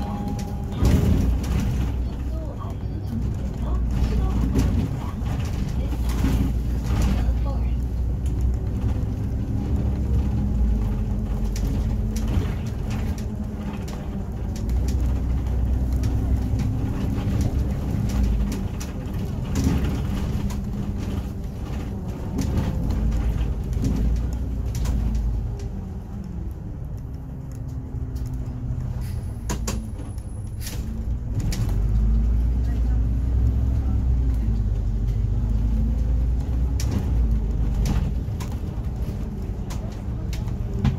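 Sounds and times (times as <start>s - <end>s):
rattles from bus fittings: 0.0s - 26.3s, 27.3s - 40.9s
bus engine and road drone: 0.0s - 40.9s.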